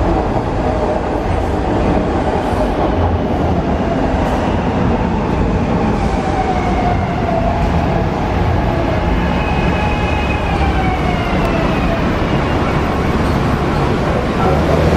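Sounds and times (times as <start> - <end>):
train wheels rumbling on rail: 0.0 - 14.9.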